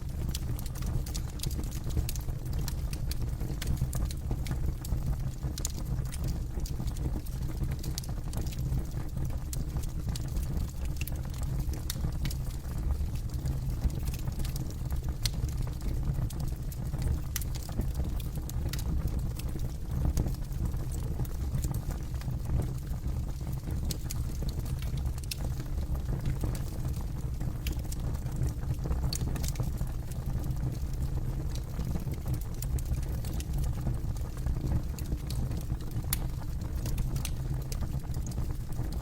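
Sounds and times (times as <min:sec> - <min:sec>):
low fire rumble: 0:00.0 - 0:39.0
wood crackling and popping: 0:00.1 - 0:39.0.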